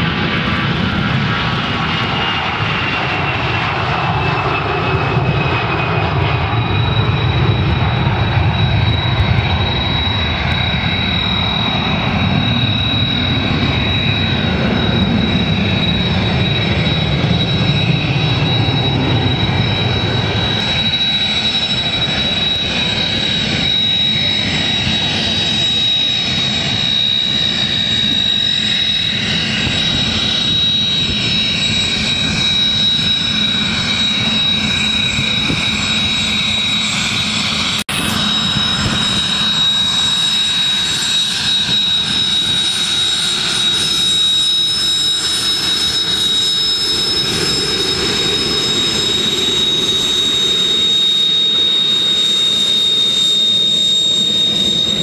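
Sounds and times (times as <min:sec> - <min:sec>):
high-pitched jet whine: 0:00.0 - 0:55.0
jet aircraft taxiing: 0:00.0 - 0:55.0
jet engines deep rumble: 0:00.0 - 0:55.0.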